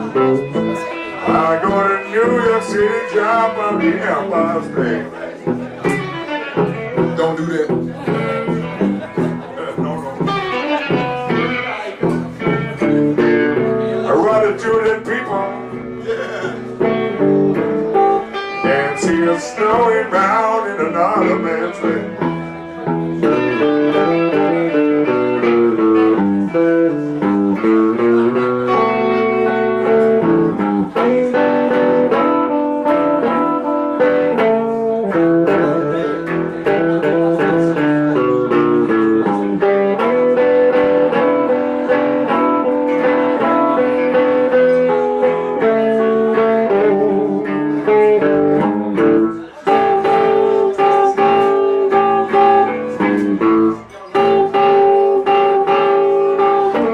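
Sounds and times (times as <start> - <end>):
blues band playing: 0.0 - 56.9
electric guitar: 0.0 - 56.9.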